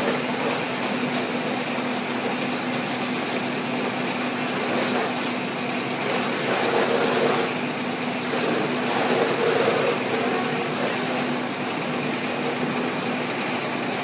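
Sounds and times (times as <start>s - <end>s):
fire truck engines running: 0.0s - 14.0s.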